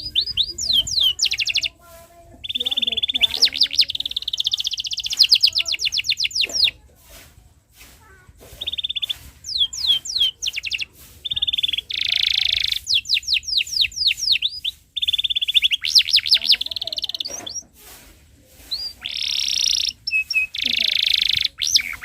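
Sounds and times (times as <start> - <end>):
canary singing trills: 0.0 - 6.9, 8.4 - 17.8, 18.6 - 22.0.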